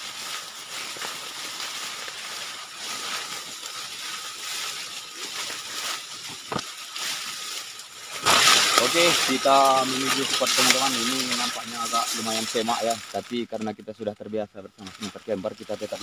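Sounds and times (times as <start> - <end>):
leaves and stems rustling: 0.0 - 16.0.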